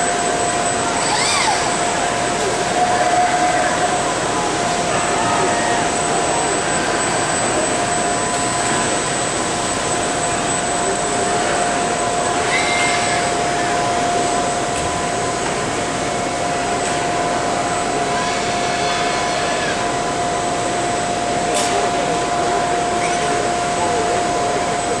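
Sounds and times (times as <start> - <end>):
high whines: 0.0 - 21.2
industrial machinery hum: 0.0 - 25.0.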